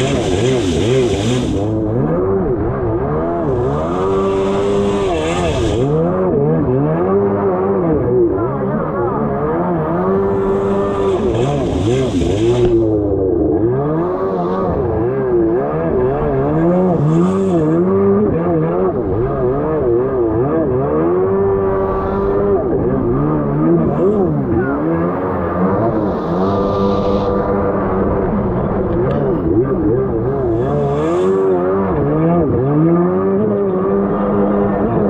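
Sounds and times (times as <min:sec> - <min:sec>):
jet ski engine revving: 0:00.0 - 0:35.0.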